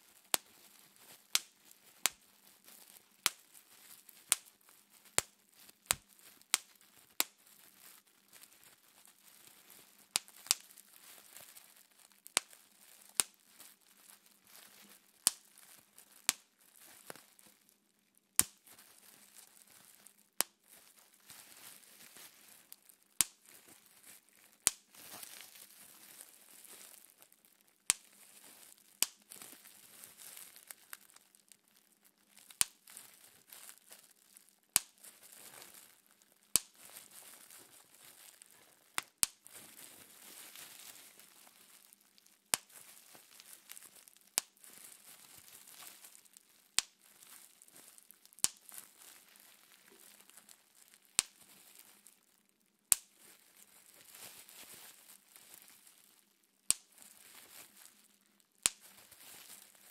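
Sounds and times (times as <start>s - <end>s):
plastic sheet crinkling: 0.0s - 52.3s, 53.0s - 59.9s
bubble wrap popping: 0.0s - 59.9s.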